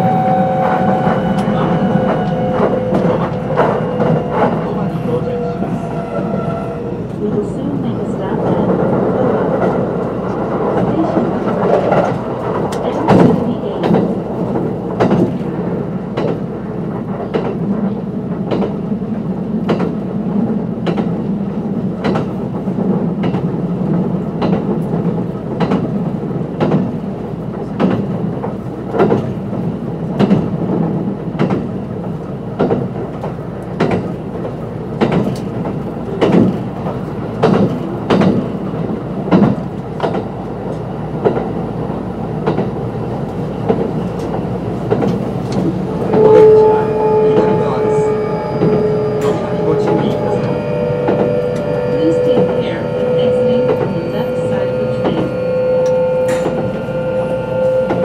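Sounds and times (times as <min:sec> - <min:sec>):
train rumble from inside: 0:00.0 - 0:58.0.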